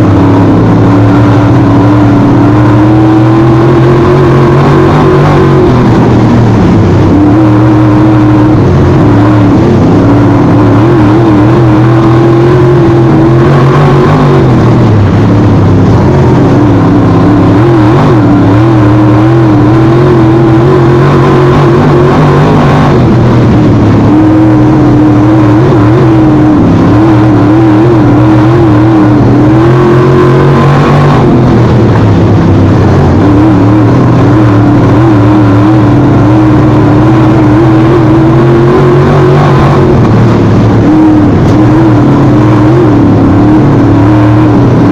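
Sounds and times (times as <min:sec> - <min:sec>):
race car engine at speed: 0:00.0 - 0:44.9.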